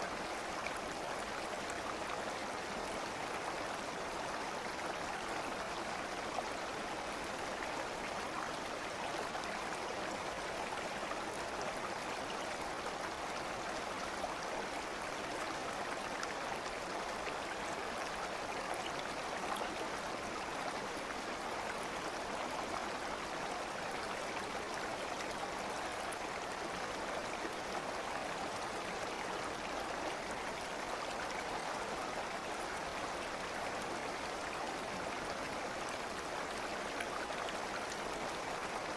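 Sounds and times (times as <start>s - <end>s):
stream flowing and babbling: 0.0s - 38.9s.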